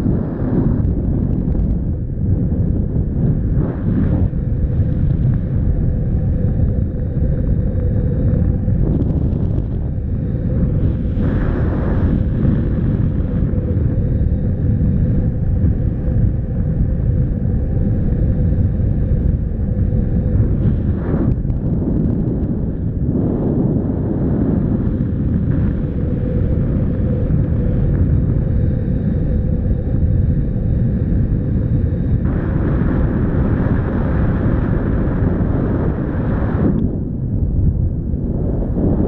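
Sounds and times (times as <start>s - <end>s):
wind noise on microphone: 0.0s - 39.0s.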